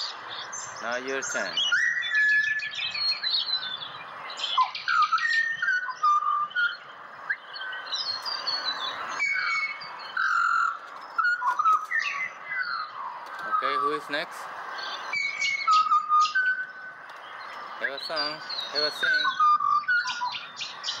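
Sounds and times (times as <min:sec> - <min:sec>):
birds singing whistled notes: 0:00.0 - 0:21.0.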